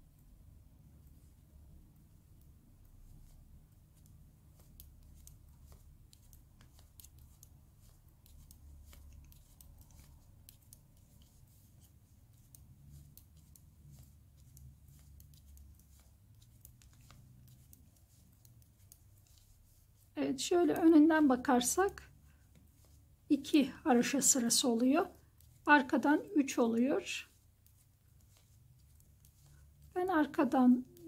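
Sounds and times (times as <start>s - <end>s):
low steady hum: 0.0s - 31.0s
knitting needles clicking: 2.3s - 23.0s, 23.9s - 31.0s.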